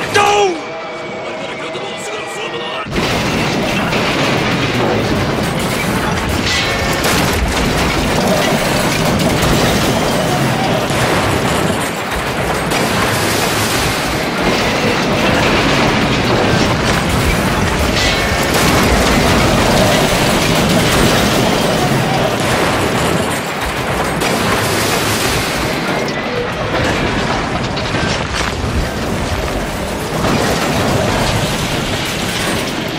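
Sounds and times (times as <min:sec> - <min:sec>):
rail cars rumbling and crashing: 0:00.0 - 0:32.9
metal and wood grinding: 0:00.7 - 0:32.9.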